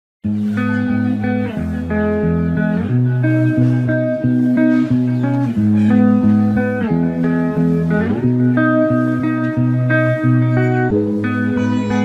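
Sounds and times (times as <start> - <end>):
plucked guitar music: 0.2 - 12.0.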